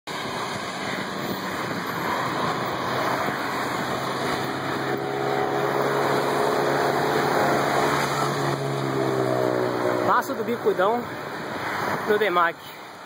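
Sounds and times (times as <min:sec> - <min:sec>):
bicycle tyre road noise: 0:00.1 - 0:13.0
low motor vehicle hum: 0:00.1 - 0:13.0
wind over microphone: 0:00.1 - 0:13.0.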